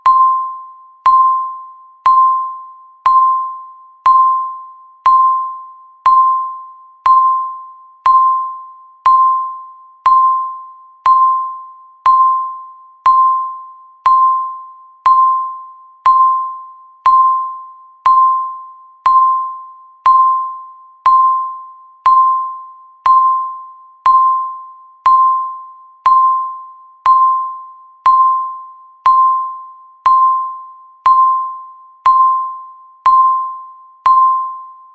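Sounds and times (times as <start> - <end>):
countdown timer beep: 0.0 - 34.9.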